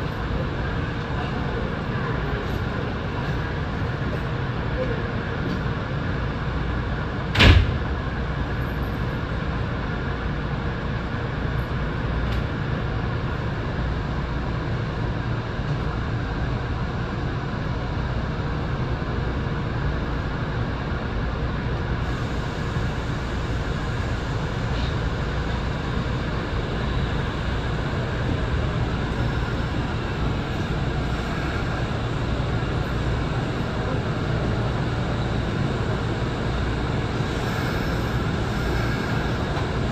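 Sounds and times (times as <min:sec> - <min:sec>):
train noise: 0:00.0 - 0:39.9.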